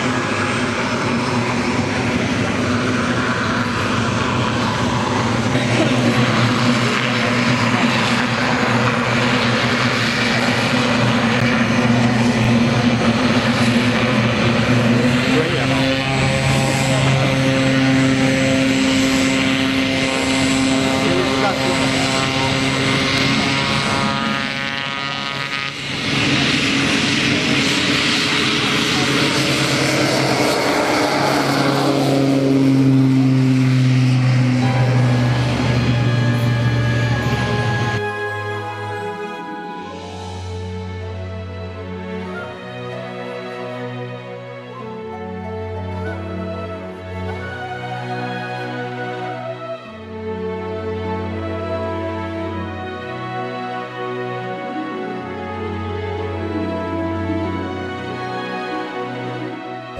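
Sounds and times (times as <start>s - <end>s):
propeller noise: 0.0s - 59.9s
turboprop engine drone: 0.0s - 59.9s.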